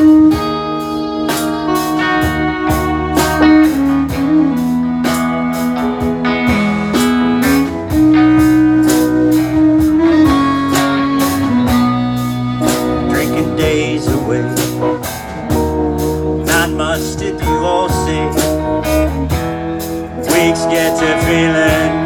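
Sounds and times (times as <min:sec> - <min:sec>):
bass line: 0:00.0 - 0:22.0
steady beat strokes: 0:00.0 - 0:22.0
strummed guitar: 0:00.0 - 0:22.0
sustained lead melody: 0:00.0 - 0:22.0.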